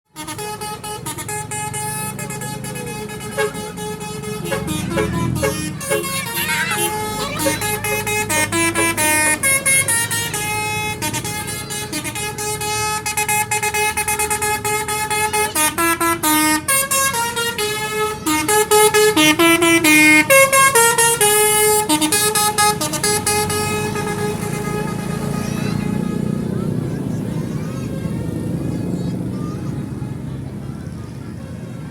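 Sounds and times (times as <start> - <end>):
musical air horn tune: 0.2 - 26.5.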